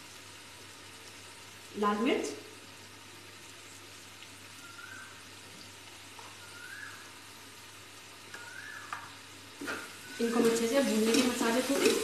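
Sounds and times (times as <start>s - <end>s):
spices sizzling in oil: 0.0s - 12.0s.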